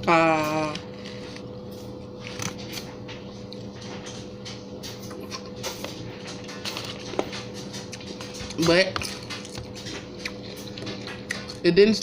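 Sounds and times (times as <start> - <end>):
person chewing food: 0.6 - 11.7.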